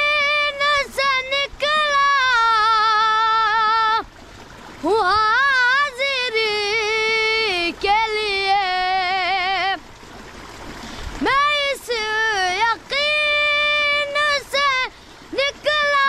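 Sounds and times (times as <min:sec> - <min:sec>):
boy singing unaccompanied: 0:00.0 - 0:04.1, 0:04.8 - 0:09.8, 0:11.2 - 0:16.0.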